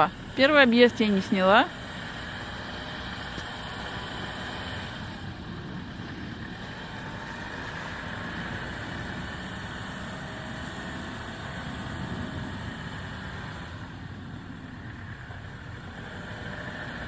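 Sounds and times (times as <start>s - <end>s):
off-road vehicle engine rumbling: 0.0s - 17.0s.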